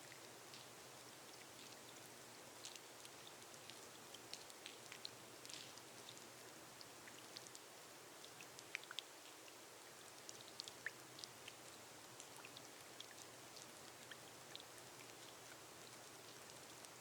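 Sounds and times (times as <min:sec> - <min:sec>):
rain hissing on glass roof: 0:00.0 - 0:17.0.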